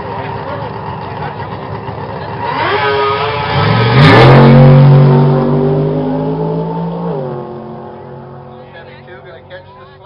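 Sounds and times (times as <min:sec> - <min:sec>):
drag race cars accelerating: 0:00.0 - 0:09.7.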